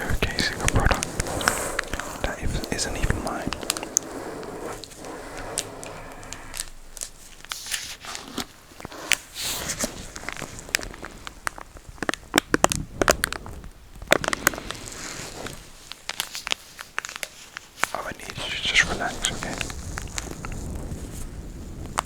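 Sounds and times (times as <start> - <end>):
plastic packet crinkling: 0.0 - 13.5, 15.8 - 20.4.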